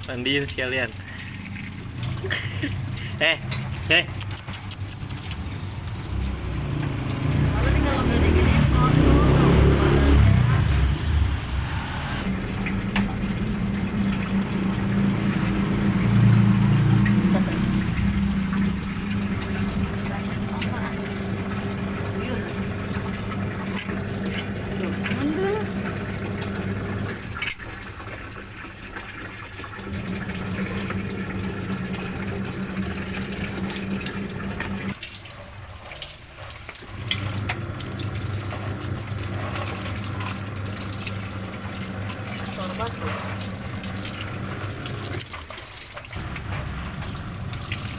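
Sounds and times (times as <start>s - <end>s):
running water: 0.0s - 47.9s.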